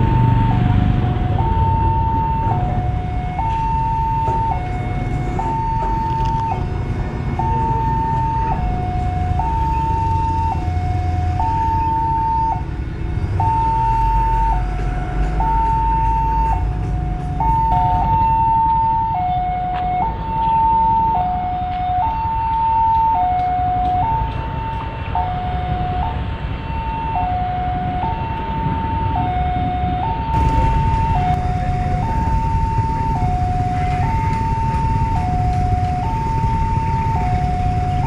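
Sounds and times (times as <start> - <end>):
level crossing two-tone alarm: 1.2 - 6.6, 7.3 - 12.6, 13.4 - 14.7, 15.3 - 16.7, 17.3 - 38.0.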